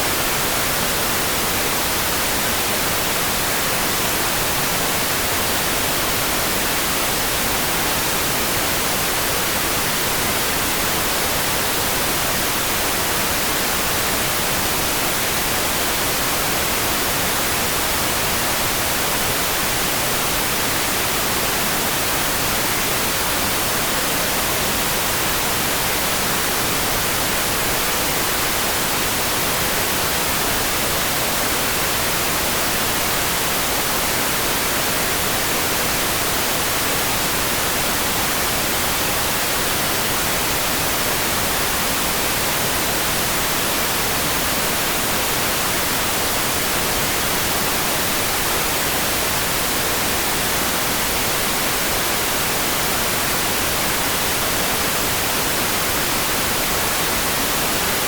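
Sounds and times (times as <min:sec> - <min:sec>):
steady rain-like hiss: 0:00.0 - 0:58.0.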